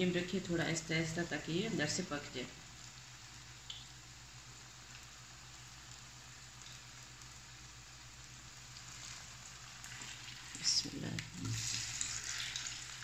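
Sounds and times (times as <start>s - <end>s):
potato patties sizzling in oil: 0.0s - 13.0s.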